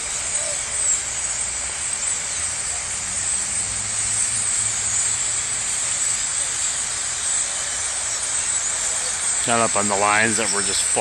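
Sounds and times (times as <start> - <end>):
flock of birds chattering: 0.0 - 11.0.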